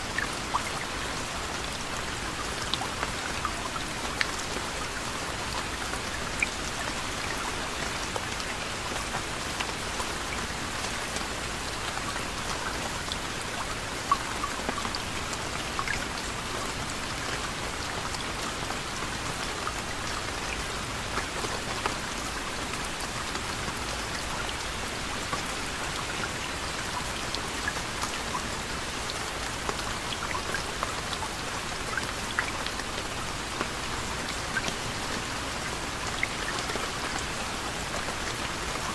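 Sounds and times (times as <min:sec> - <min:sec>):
raindrops ticking on a surface: 0:00.0 - 0:38.9
steady soft rain hiss: 0:00.0 - 0:38.9.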